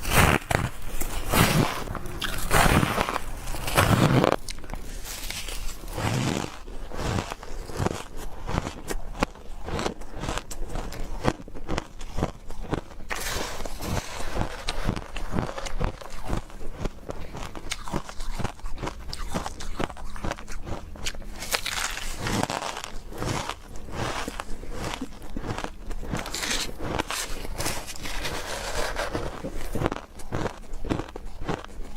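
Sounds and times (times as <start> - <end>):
chewing crunchy ice: 0.0 - 31.9.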